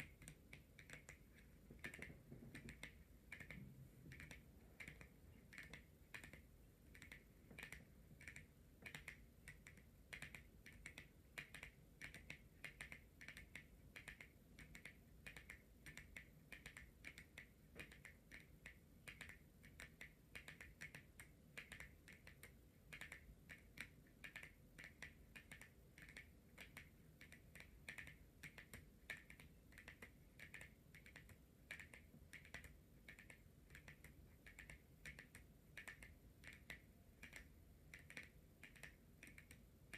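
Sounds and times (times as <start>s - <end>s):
fingernails tapping on cards: 0.0s - 39.9s.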